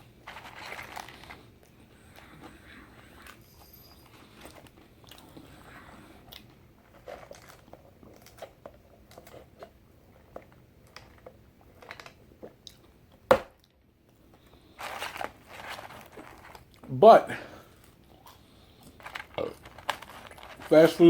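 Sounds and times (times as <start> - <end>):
man chewing food: 0.0 - 16.9, 17.6 - 20.7.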